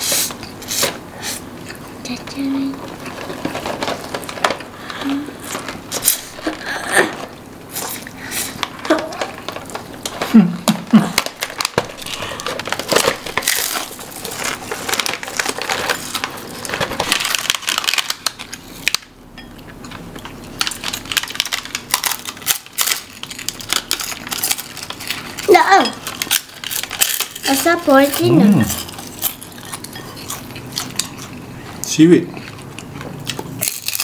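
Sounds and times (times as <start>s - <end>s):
plastic wrapper crinkling: 2.6s - 19.1s, 20.3s - 31.3s.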